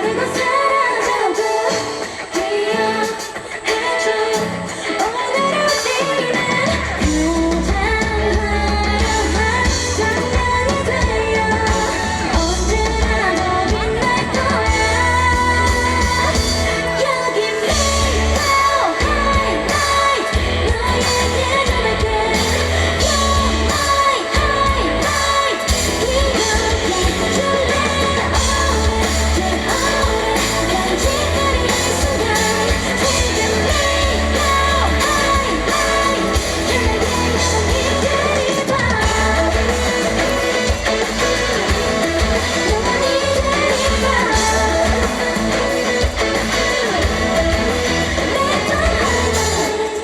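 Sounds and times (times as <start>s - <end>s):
electric guitar: 0.0s - 50.0s
woman singing lead vocals: 0.0s - 50.0s
bass and drum beat: 6.3s - 17.1s, 17.7s - 49.8s.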